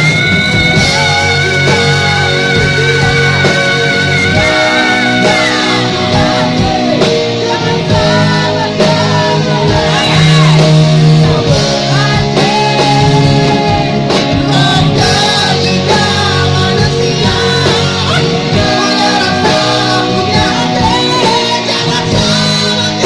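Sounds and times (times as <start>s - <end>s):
person singing: 0.0s - 23.0s
rock band playing: 0.0s - 23.0s.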